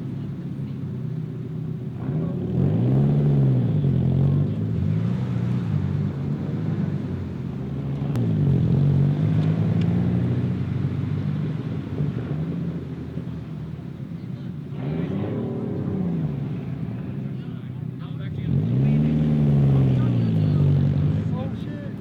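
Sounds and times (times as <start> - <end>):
car engine running: 0.0 - 22.0
road rumble: 0.0 - 22.0.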